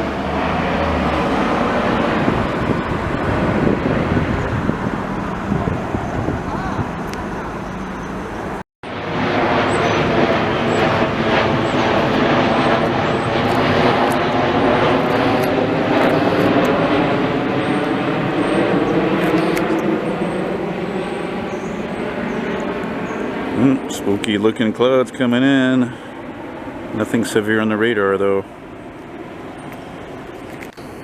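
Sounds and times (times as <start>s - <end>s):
jet airliner flying overhead: 0.0s - 31.0s.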